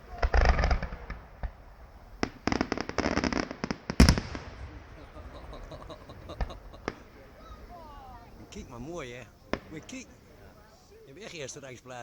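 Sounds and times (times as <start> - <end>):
loud firework bang: 0.0 - 10.4
firework pops: 0.0 - 11.4
fireworks crackling bangs: 0.0 - 12.0.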